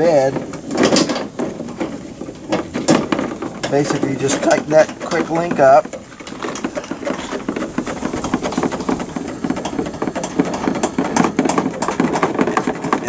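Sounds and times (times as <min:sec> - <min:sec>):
steel chain rattling and clinking: 0:00.0 - 0:13.0.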